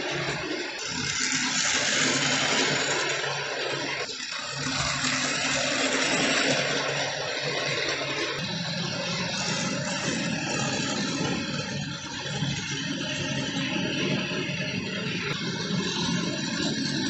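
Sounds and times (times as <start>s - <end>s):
model trains rolling on track: 0.0s - 17.0s.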